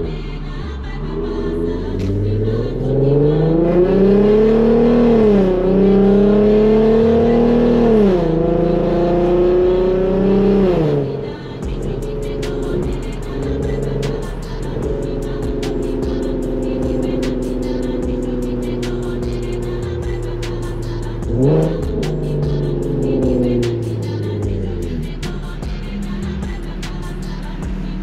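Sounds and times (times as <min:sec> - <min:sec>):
music: 0:00.0 - 0:28.0
car engine revving through gears: 0:01.0 - 0:28.0.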